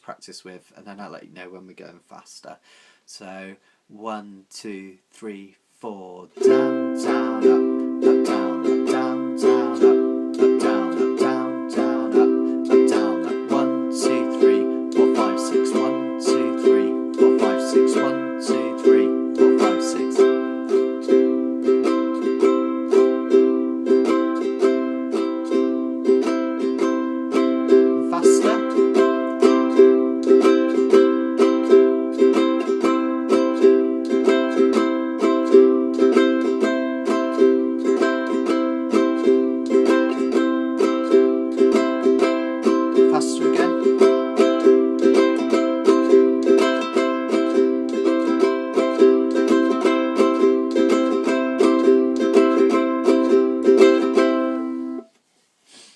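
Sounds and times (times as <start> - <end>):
ukulele strumming: 6.3 - 55.1.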